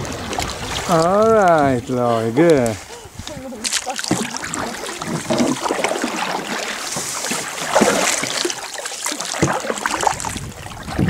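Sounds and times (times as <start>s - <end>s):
kayak paddles in water: 0.0s - 11.0s
water splashing and dripping: 0.0s - 11.0s.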